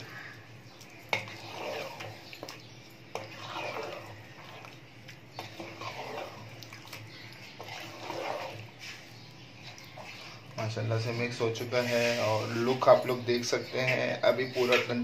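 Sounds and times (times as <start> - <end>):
spoon stirring thick sauce: 0.0 - 15.0.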